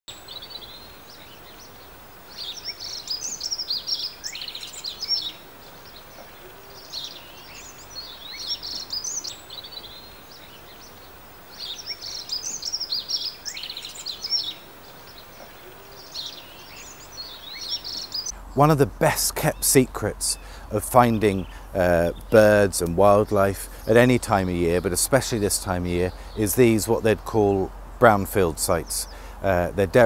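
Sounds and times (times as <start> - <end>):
bird singing warbling trills: 0.1 - 30.0
steady background hiss: 0.1 - 30.0.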